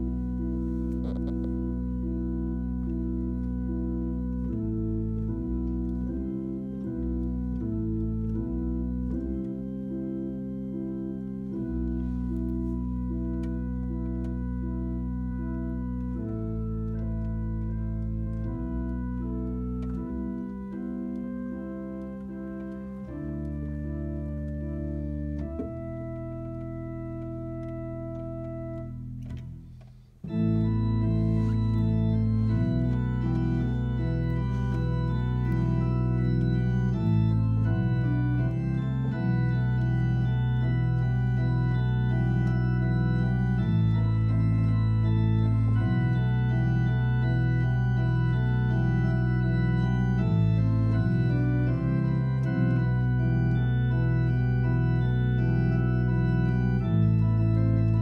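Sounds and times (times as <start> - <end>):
church organ playing chords: 0.0 - 58.0.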